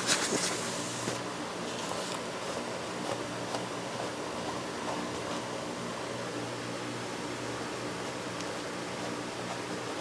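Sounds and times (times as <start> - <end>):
fan-like hiss: 0.0 - 10.0.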